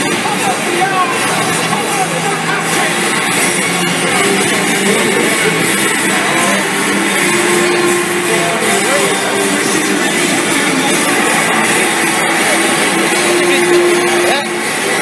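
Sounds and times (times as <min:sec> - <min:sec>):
big crowd noise: 0:00.0 - 0:15.0
music over stadium loudspeakers: 0:00.0 - 0:15.0.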